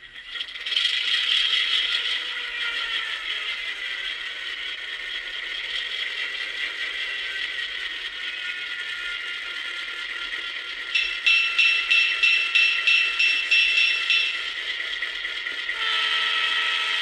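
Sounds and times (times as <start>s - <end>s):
tinny model engine sound: 0.0s - 17.0s.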